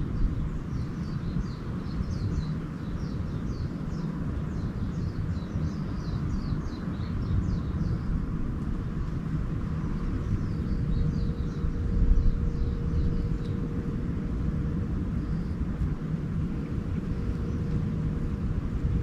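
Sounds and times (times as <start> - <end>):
small birds chirping: 0.0 - 14.0, 16.6 - 18.4
low background rumble: 0.0 - 19.0.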